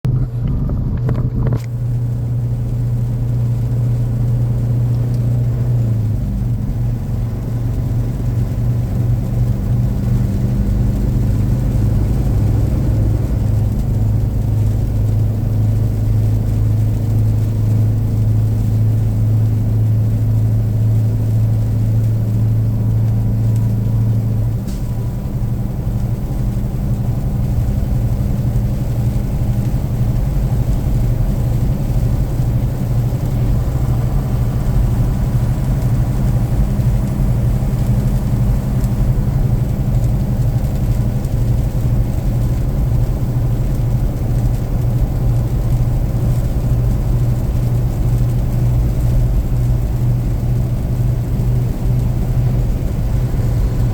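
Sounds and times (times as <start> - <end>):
car engine and road drone: 0.0 - 53.9.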